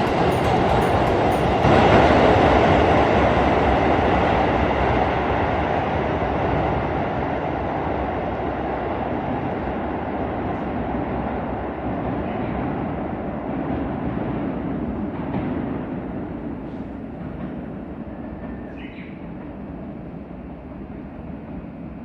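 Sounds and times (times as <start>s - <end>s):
electric train rail noise: 0.0s - 22.0s.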